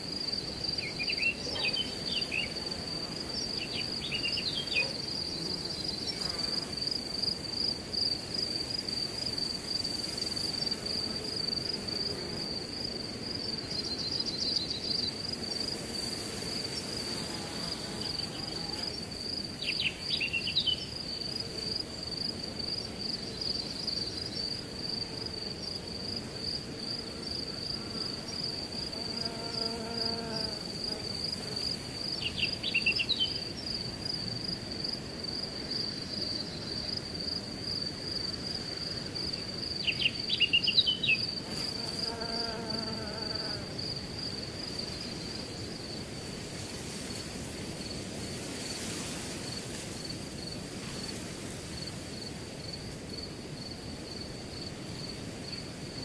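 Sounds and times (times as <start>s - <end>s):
crickets trilling: 0.0s - 56.0s
wind through grass: 0.0s - 56.0s.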